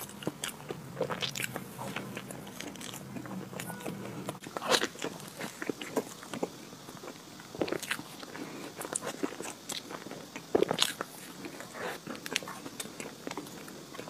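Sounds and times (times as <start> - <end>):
wet clicking chewing: 0.0 - 14.0.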